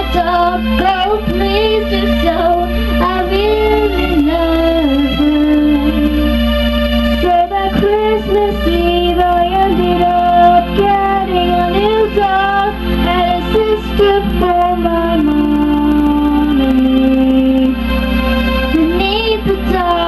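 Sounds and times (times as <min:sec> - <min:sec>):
girl singing into microphone: 0:00.0 - 0:06.4, 0:07.2 - 0:17.8, 0:18.7 - 0:20.0
held backing notes: 0:00.0 - 0:20.0.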